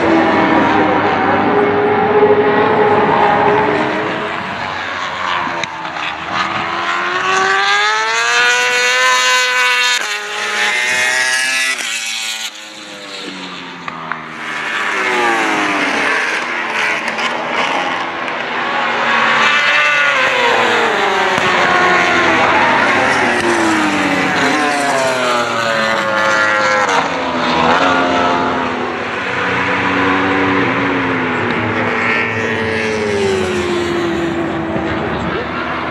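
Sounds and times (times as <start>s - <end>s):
racing motorcycles accelerating and braking: 0.0s - 35.9s.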